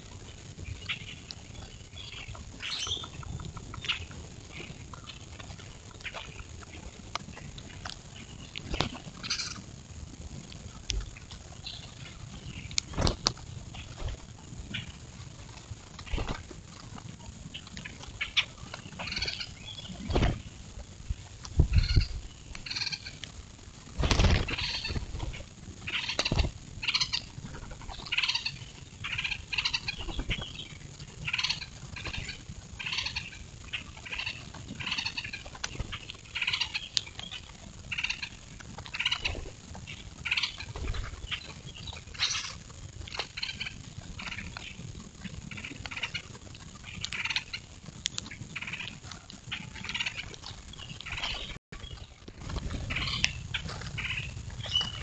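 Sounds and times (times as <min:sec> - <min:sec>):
grackles calling: 0:00.6 - 0:05.3, 0:07.4 - 0:09.7, 0:11.6 - 0:15.1, 0:17.5 - 0:23.3, 0:24.0 - 0:44.8, 0:45.4 - 0:55.0.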